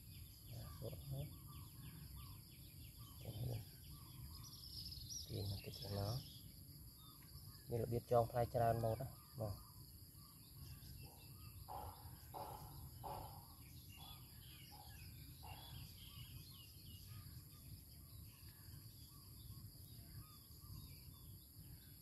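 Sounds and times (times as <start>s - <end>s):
faint bird chirps: 0.0s - 22.0s
insect drone: 0.0s - 22.0s.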